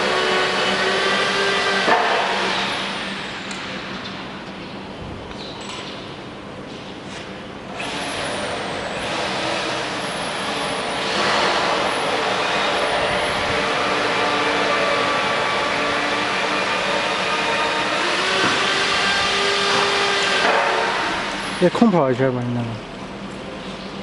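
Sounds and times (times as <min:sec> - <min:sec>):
workshop machinery motor hum: 0:00.0 - 0:05.3, 0:06.2 - 0:24.0.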